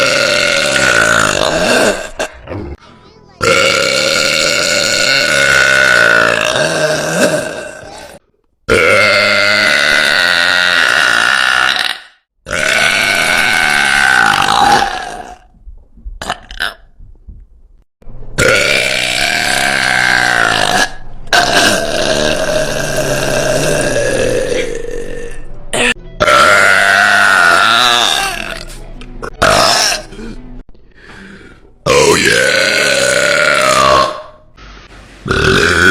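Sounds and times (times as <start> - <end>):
woman belching loudly: 0.0 - 2.8, 3.4 - 15.5, 18.4 - 28.7, 29.3 - 30.4, 31.9 - 34.4, 35.3 - 35.9.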